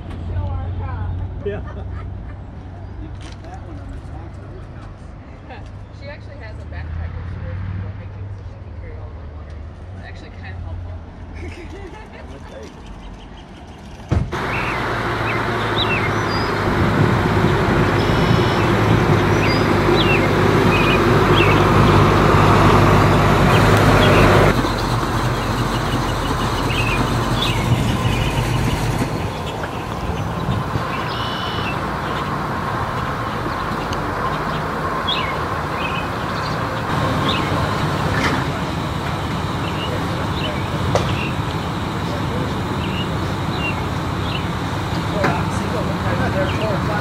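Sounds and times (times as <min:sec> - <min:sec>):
car engines passing slowly: 0:00.0 - 0:47.0
road noise: 0:00.0 - 0:47.0.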